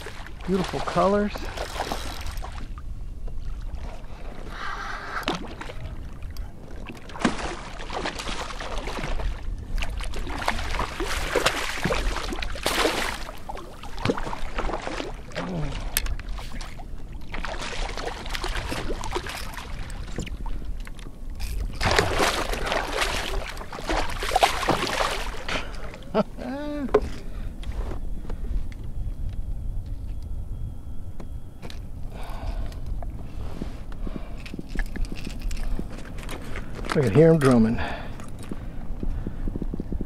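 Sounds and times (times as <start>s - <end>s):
water splashing and sloshing: 0.0s - 28.7s, 31.6s - 39.2s.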